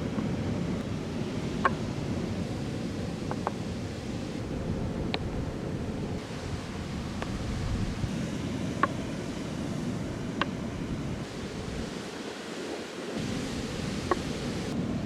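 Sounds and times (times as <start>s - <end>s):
sea waves washing in: 0.0s - 15.0s
wind on microphone: 0.0s - 15.0s.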